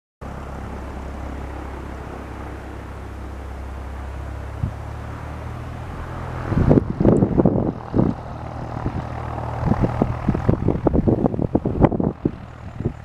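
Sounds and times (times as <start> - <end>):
aircraft piston engine drone: 0.2 - 13.0
uneven rumbling bursts: 0.2 - 13.0.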